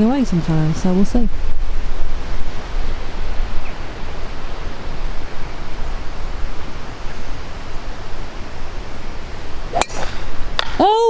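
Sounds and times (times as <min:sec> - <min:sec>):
wind noise on microphone: 0:00.0 - 0:10.9.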